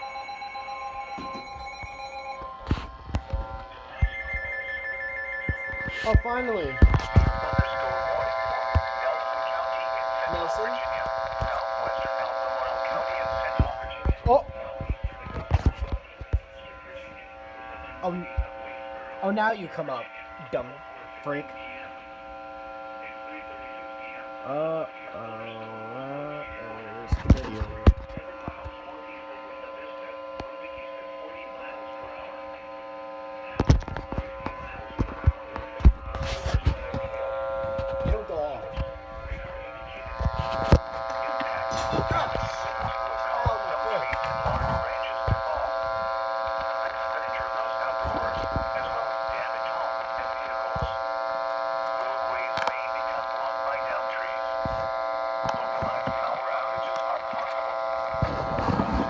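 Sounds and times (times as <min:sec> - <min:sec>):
radio interference buzz: 0:00.0 - 0:59.0
steady electrical hum: 0:00.0 - 0:59.0
faint speech: 0:05.9 - 0:59.0.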